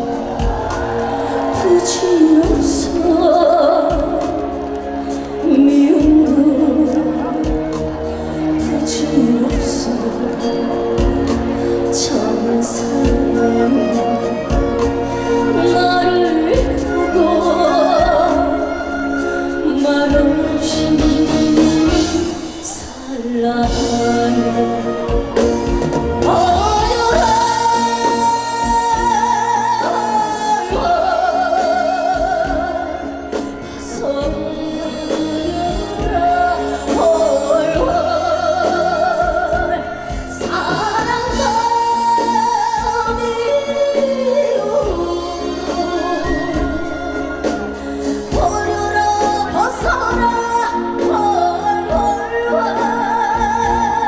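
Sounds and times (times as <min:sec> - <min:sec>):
band accompaniment with bass: 0:00.0 - 0:54.0
woman singing with vibrato: 0:00.0 - 0:54.0.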